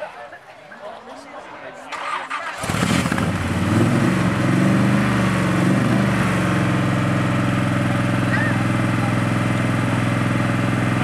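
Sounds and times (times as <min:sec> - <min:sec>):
sports car engine starting and idling: 0:01.9 - 0:11.0.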